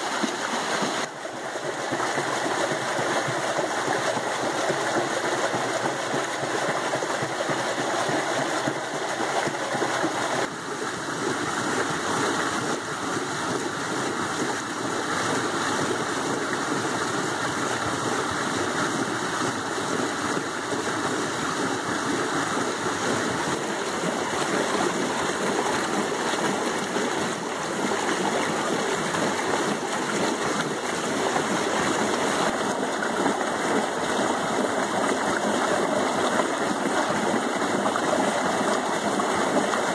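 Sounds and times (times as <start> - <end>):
water rushing through water wheel: 0.0 - 39.9.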